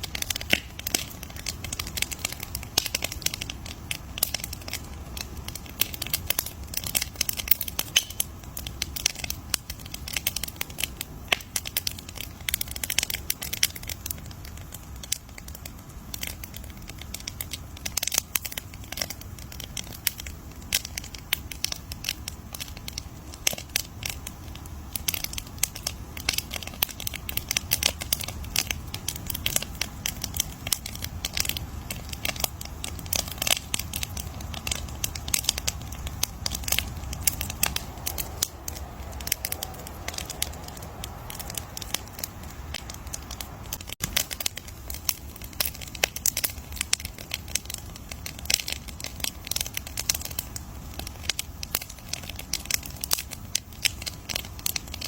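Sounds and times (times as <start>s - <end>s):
campfire crackling: 0.0s - 55.0s
low rumble of burning wood: 0.0s - 55.0s.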